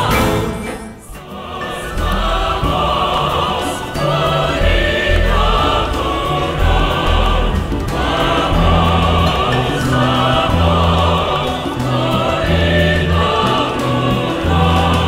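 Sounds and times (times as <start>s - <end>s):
instrumental ensemble: 0.0s - 15.0s
mixed choir singing: 0.0s - 15.0s
bass line: 2.0s - 15.0s.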